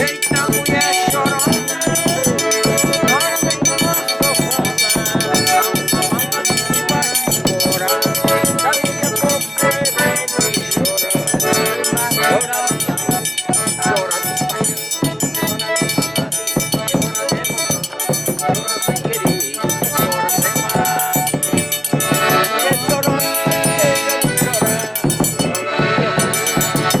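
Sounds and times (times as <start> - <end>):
accordion chords: 0.0 - 27.0
drum beat: 0.0 - 27.0
high metallic percussion: 0.0 - 27.0.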